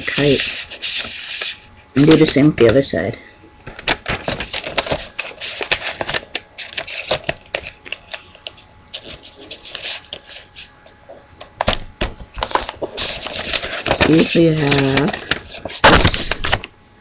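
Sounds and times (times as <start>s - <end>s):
paper being folded: 0.0s - 2.4s, 3.6s - 10.7s, 12.3s - 16.7s.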